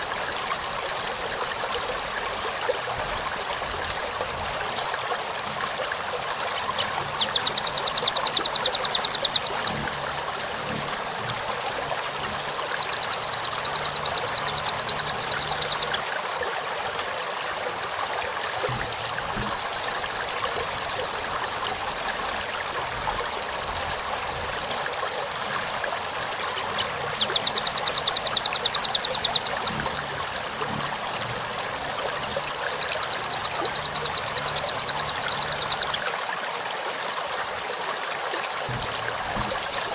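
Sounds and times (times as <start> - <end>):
bird calling in rapid trills: 0.0 - 16.1, 18.7 - 36.1, 38.7 - 39.9.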